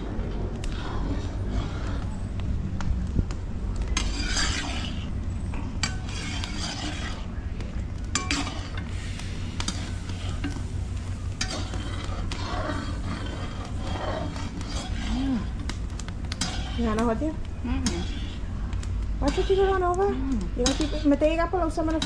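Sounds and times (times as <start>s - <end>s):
steady low rumble: 0.0s - 22.0s
spoon stirring and scraping pot: 0.4s - 2.7s, 3.8s - 22.0s.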